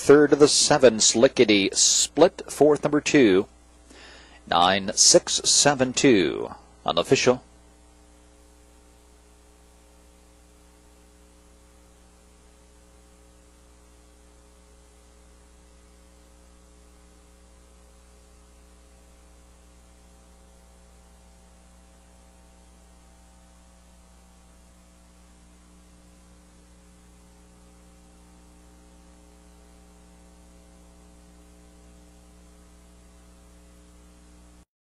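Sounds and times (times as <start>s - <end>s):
electrical mains hum: 0.0s - 34.7s.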